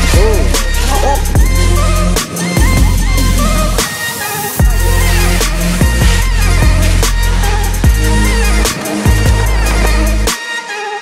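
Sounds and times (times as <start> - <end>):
hip hop music: 0.0 - 11.0.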